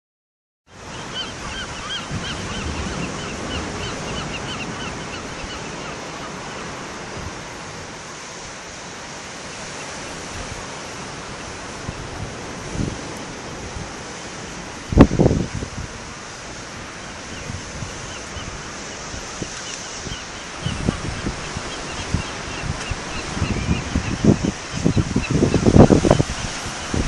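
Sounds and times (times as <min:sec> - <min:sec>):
surf breaking on rocky shore: 0:00.7 - 0:27.0.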